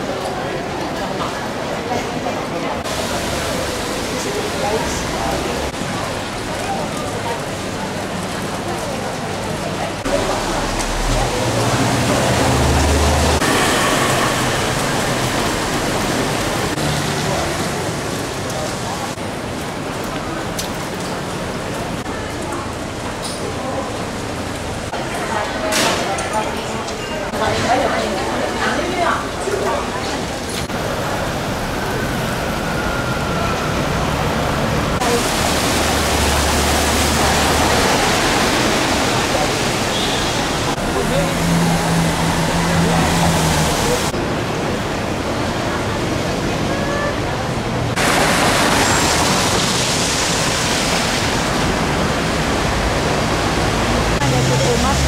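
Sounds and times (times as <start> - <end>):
rain on a wet street: 0.0 - 55.0.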